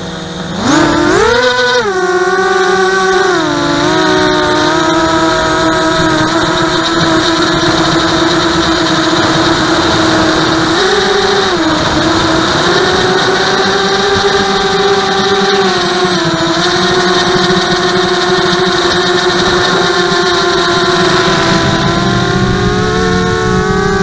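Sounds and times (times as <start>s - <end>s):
quadcopter motors buzzing whine: 0.0s - 24.0s.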